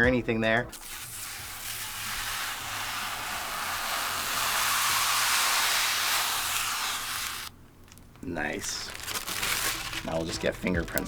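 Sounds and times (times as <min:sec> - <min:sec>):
plastic film peeling off: 0:00.7 - 0:11.0.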